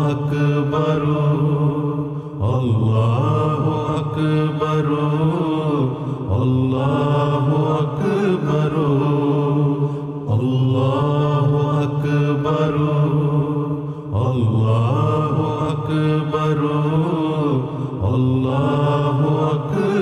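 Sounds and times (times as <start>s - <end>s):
men chanting: 0.0s - 20.0s.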